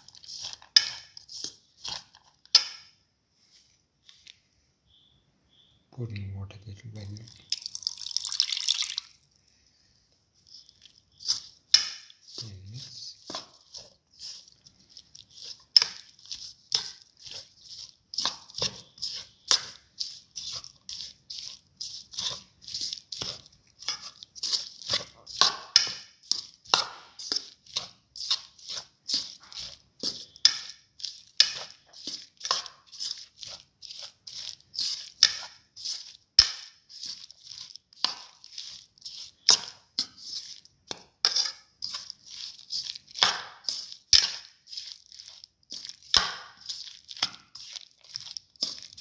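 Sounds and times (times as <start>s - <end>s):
spoon stirring in bowl: 0.0s - 2.9s, 10.4s - 49.0s.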